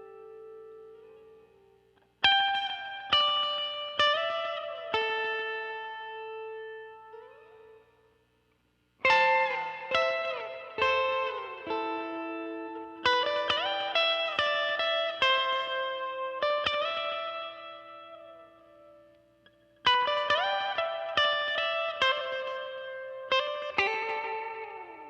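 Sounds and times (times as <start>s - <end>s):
electric guitar with tape echo: 0.0s - 25.0s.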